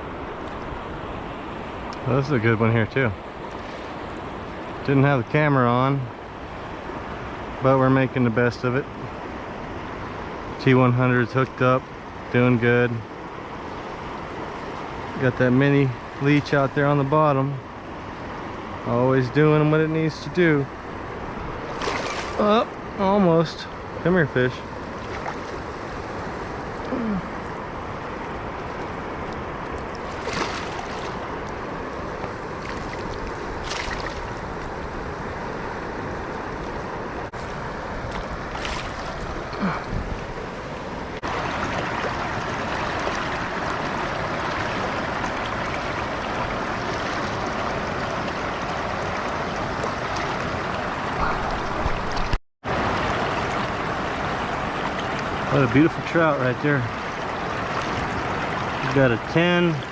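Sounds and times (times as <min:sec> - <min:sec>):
river water rushing: 0:00.0 - 0:02.5, 0:03.1 - 0:04.8, 0:13.0 - 0:59.9.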